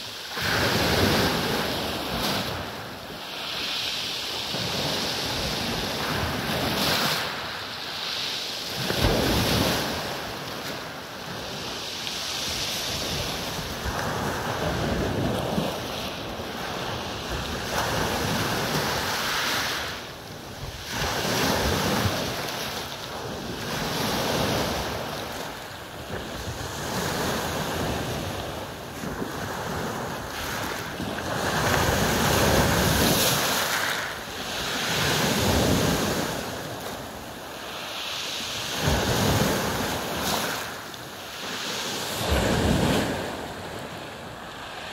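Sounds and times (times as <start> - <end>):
waves breaking on pebble beach: 0.1 - 44.9.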